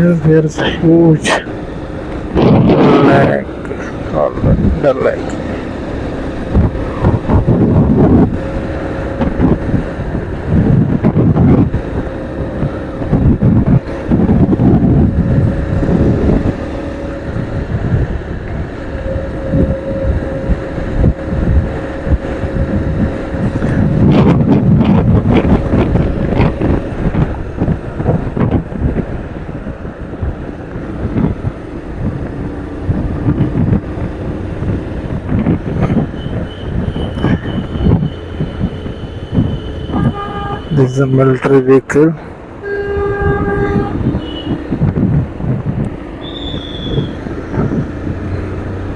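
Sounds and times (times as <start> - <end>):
vehicle engines droning: 0.0 - 48.9
wind buffeting microphone: 0.0 - 48.9.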